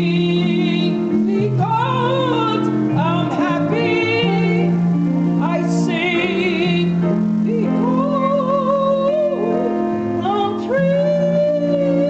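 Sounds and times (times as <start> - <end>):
instrumental accompaniment: 0.0 - 12.0
woman singing with vibrato: 0.0 - 12.0.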